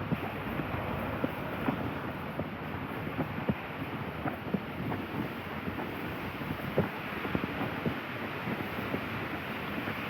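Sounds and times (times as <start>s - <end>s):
rain on a street: 0.0s - 10.0s
wind buffeting microphone: 0.0s - 10.0s.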